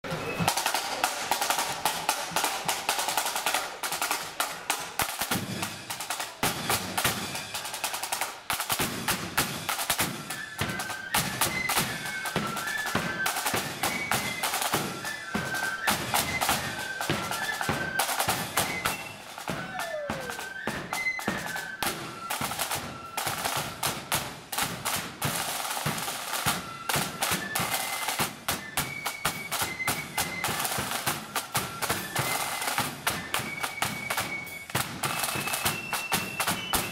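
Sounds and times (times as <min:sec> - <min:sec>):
high flute melody: 0:00.0 - 0:36.9
snare drum rolls: 0:00.0 - 0:36.9.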